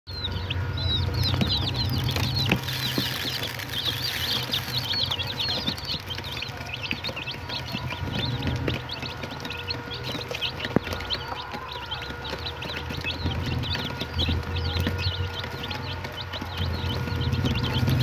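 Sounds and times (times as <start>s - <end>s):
chicks peeping: 0.1s - 18.0s.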